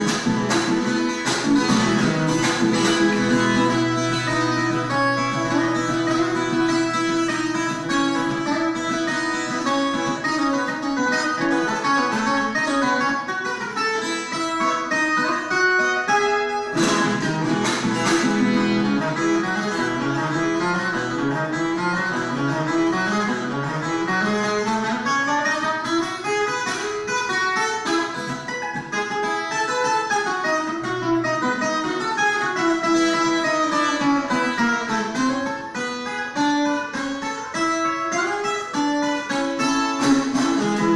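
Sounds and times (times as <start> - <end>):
guitar strum: 0.0 - 40.9
plucked guitar runs: 0.0 - 40.9.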